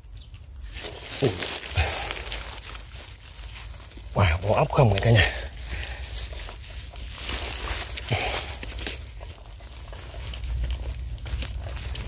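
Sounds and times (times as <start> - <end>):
hands digging through mud: 0.6 - 12.0.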